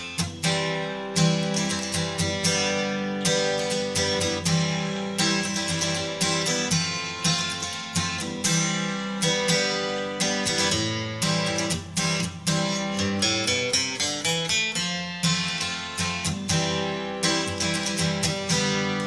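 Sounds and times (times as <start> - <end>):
plucked string music: 0.0 - 19.0.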